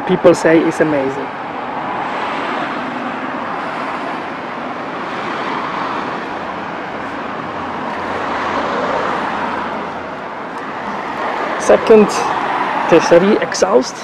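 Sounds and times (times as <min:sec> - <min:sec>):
rushing background noise: 0:00.0 - 0:14.0.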